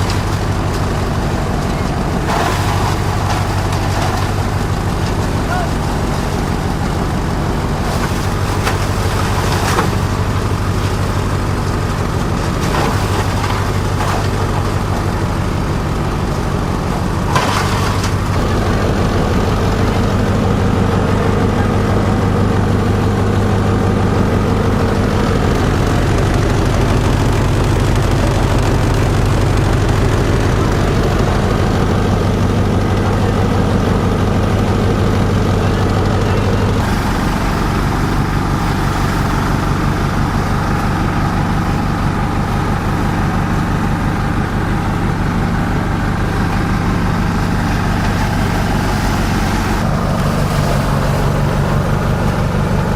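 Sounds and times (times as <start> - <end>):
shredder machine engine drone: 0.0 - 52.9.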